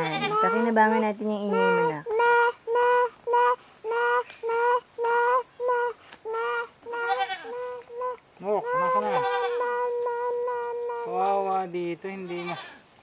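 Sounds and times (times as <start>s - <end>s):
child imitating goat bleats: 0.0s - 0.8s, 1.5s - 11.4s.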